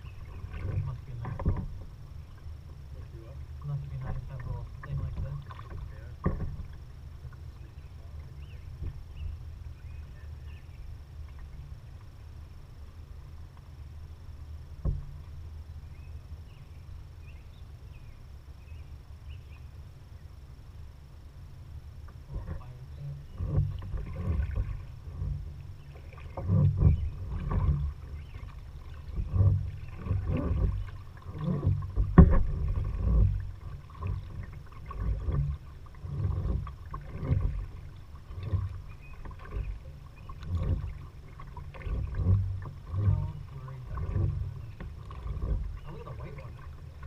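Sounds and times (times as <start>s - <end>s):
kayak paddle strokes in water: 0.0s - 17.4s, 21.0s - 47.0s.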